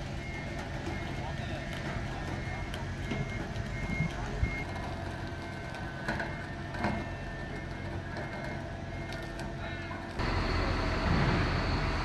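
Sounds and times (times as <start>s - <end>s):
forklift engine running: 0.0s - 12.0s
reversing beeper beeps: 0.0s - 12.0s.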